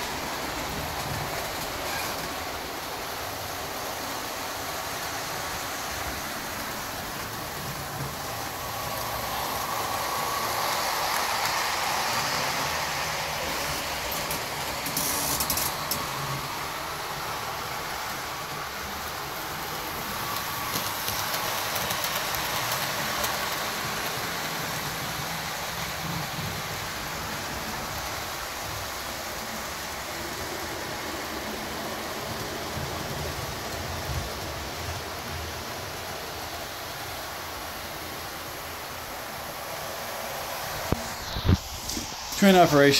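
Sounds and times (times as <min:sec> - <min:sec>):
model train motors whirring: 0:00.0 - 0:42.9.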